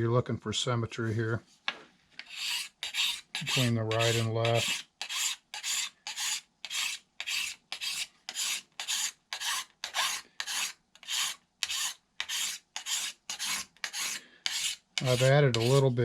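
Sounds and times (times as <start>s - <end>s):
rasp scraping strokes: 2.2s - 16.0s.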